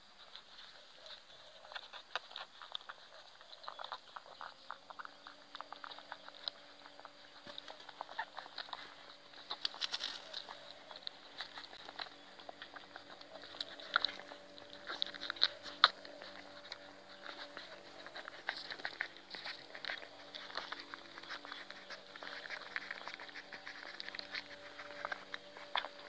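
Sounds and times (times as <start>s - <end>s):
puppies suckling: 0.0s - 26.0s.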